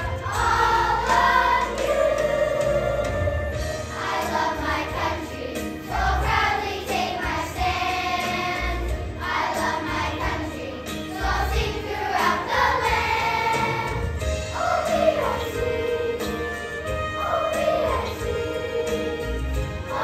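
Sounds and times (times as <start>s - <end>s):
children's choir singing: 0.0s - 20.0s.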